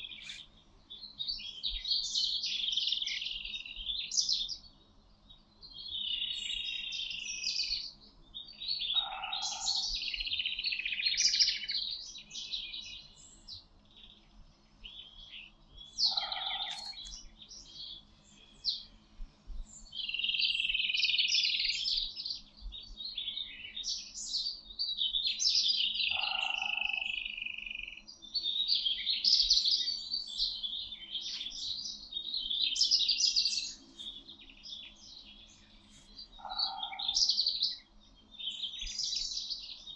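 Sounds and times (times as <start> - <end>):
songbirds warbling and twittering: 0.0 - 39.9.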